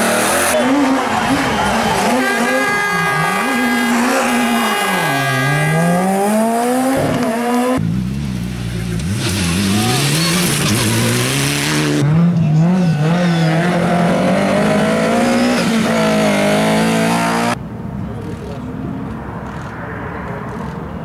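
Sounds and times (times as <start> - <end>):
rally car engines revving: 0.0 - 17.6.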